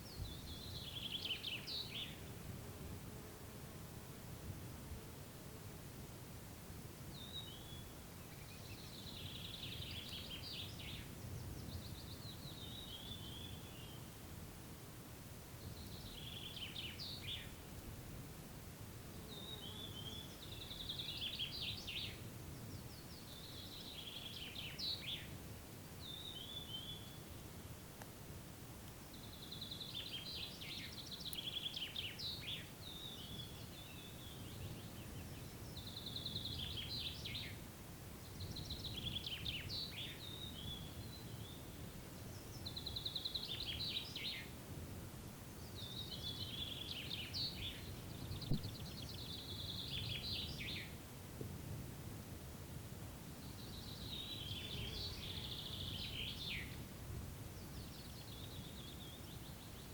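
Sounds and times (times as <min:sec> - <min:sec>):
songbird singing: 0:00.0 - 0:02.4, 0:07.0 - 0:14.2, 0:15.4 - 0:17.9, 0:19.0 - 0:28.1, 0:28.9 - 0:51.1, 0:53.2 - 0:59.9.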